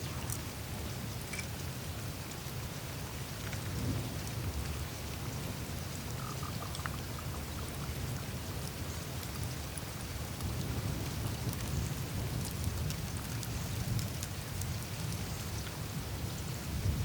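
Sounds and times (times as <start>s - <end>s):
small drips and clicks: 0.0s - 0.5s, 1.3s - 16.5s
meltwater trickling over ice: 2.1s - 16.8s.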